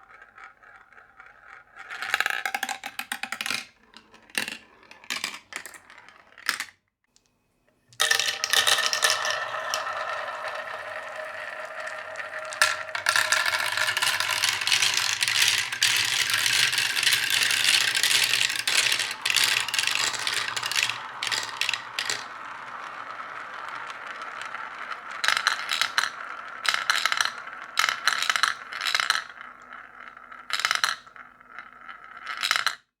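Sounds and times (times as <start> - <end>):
marbles rolling and clattering: 0.0 - 6.7, 7.9 - 32.9.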